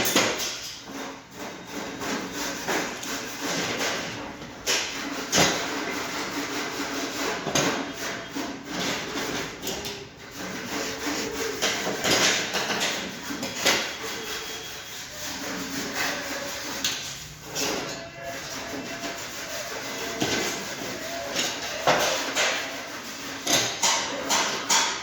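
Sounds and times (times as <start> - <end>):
scraping and rubbing: 0.2 - 25.0.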